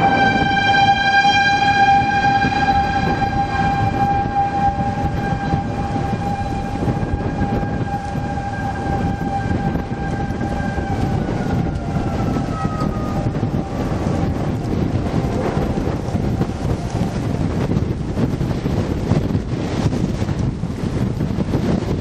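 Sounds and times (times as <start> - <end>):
warning siren tone: 0.0 - 20.2
wind buffeting microphone: 0.0 - 22.0.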